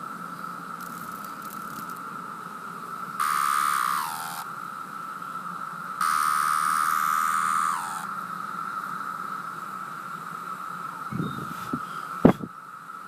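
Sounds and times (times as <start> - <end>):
cicadas droning: 0.0 - 13.0
nearby cicada calling loudly: 0.0 - 13.0.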